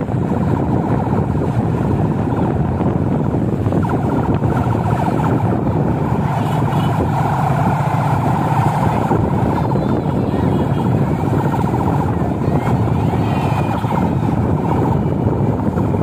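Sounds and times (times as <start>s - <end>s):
road noise of cars driving: 0.0s - 16.0s.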